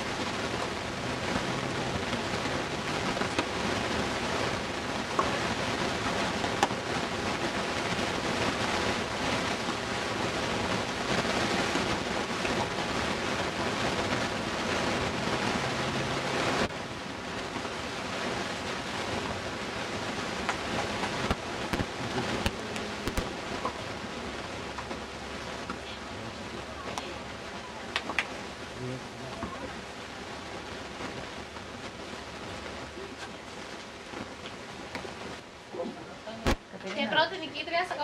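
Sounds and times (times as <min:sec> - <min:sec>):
wind hiss on microphone: 0:00.0 - 0:38.0.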